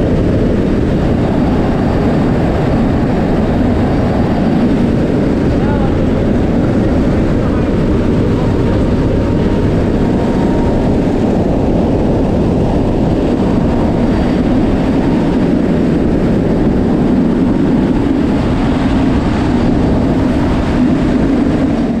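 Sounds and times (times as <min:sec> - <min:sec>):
turboprop engine noise: 0:00.0 - 0:22.0
wind rushing: 0:00.0 - 0:22.0.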